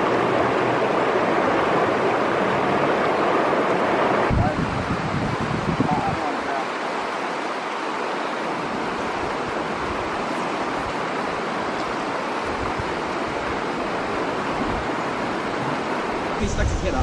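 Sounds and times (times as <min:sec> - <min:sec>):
river water over rocks: 0:00.0 - 0:17.0.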